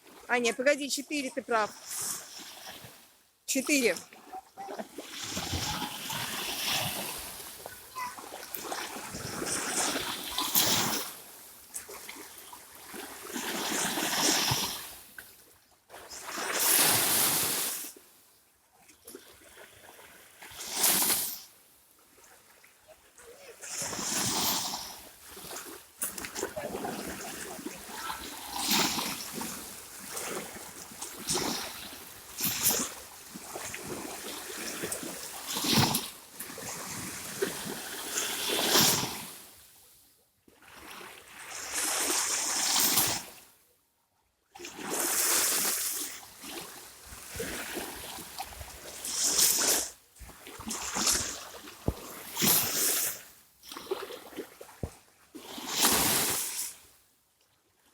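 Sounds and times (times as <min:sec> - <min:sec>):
sea water splashing and trickling: 0:00.0 - 0:03.1, 0:03.8 - 0:15.1, 0:18.8 - 0:39.5, 0:44.6 - 0:56.9.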